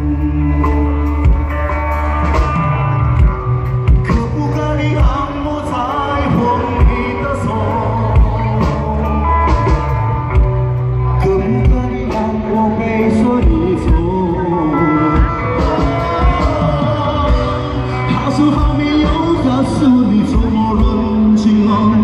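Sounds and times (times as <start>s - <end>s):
loud amplified rock music: 0.0s - 22.0s
man singing into a microphone: 3.8s - 22.0s.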